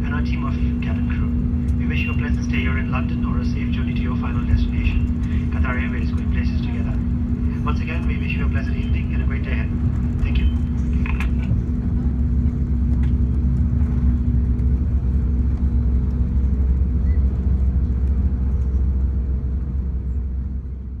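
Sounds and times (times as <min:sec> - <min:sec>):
aircraft cabin rumble and hum: 0:00.0 - 0:21.0.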